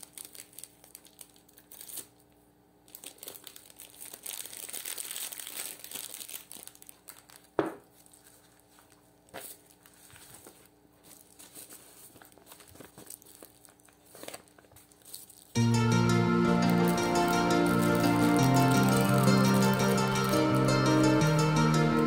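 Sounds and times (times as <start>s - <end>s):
plastic and cellophane crinkling: 0.0s - 15.6s, 16.7s - 20.9s.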